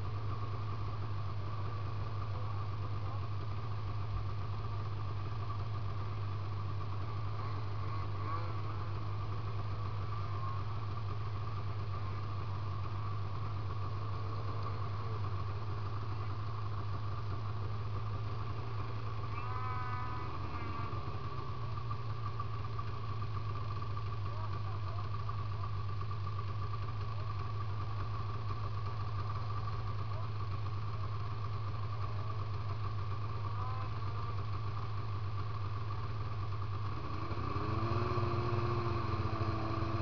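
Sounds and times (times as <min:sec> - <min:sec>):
snowmobile engine idling: 0:00.0 - 0:40.0.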